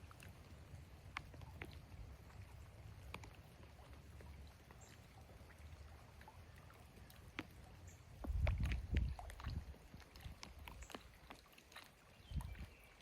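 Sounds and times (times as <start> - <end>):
raindrops tapping: 0.0 - 12.7.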